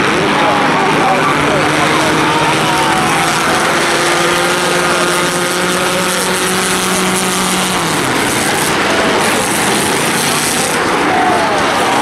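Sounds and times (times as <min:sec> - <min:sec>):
race car engine: 0:00.0 - 0:12.0
race car engines running: 0:00.0 - 0:12.0.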